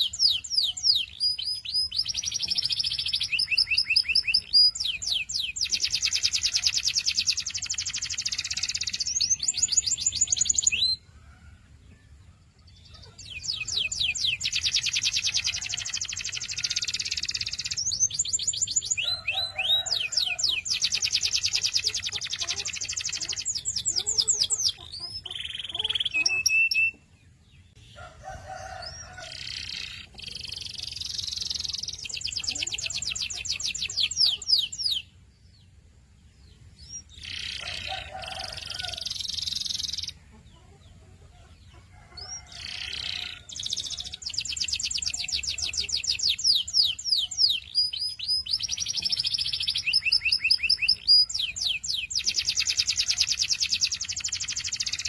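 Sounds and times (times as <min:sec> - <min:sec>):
canary singing trills: 0:00.0 - 0:11.1, 0:12.6 - 0:55.0.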